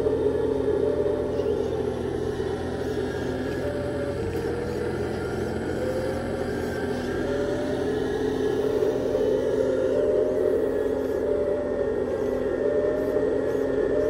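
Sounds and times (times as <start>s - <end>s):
toy machinery mechanical hum: 0.0s - 14.0s.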